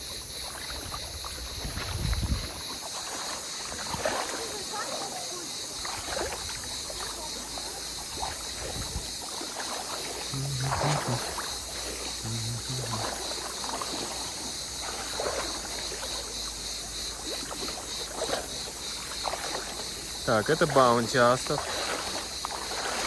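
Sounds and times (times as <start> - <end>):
people wading through water: 0.0 - 23.0.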